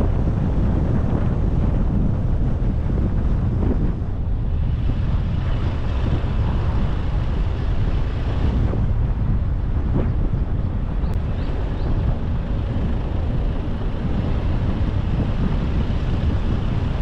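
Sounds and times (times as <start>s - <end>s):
car driving on road: 0.0s - 17.0s
road noise: 0.0s - 17.0s
wind buffeting microphone: 0.0s - 17.0s.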